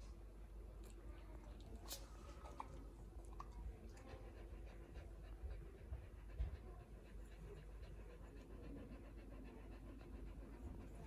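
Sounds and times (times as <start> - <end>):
puppies breathing and snuffling: 0.9 - 11.0.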